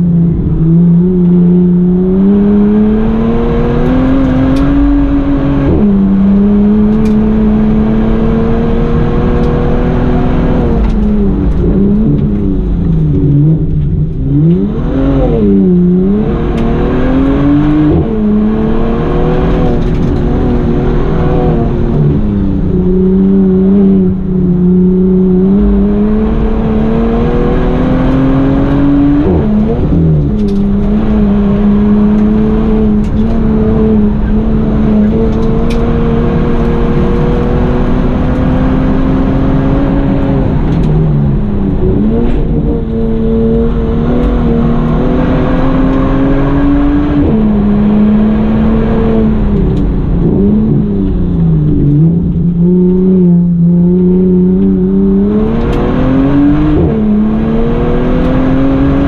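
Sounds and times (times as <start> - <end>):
car engine accelerating and shifting: 0.0 - 59.0.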